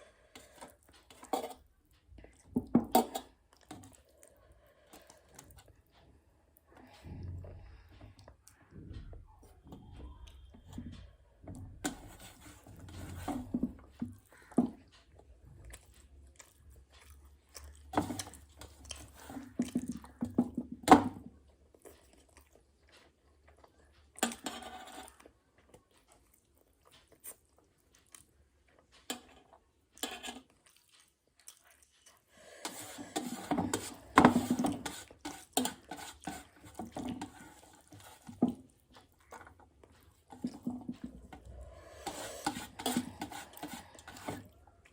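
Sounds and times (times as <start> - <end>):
chewing: 0.0 - 44.9.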